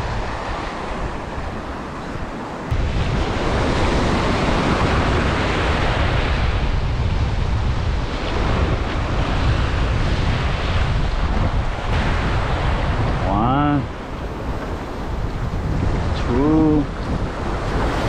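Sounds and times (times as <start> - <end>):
ocean surf on rocks: 0.0 - 18.0
wind buffeting microphone: 0.0 - 18.0.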